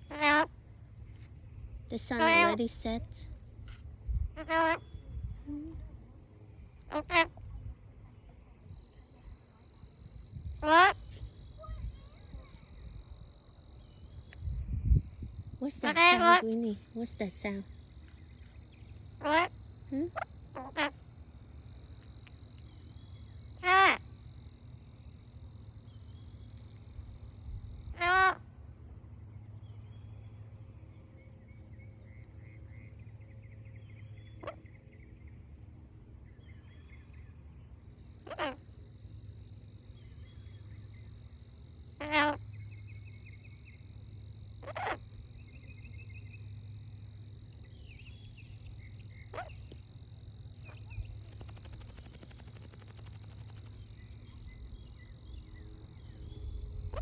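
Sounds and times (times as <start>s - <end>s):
faint frog trills: 0.0s - 0.8s, 1.6s - 28.5s, 37.9s - 57.0s
high insect drone: 0.0s - 57.0s.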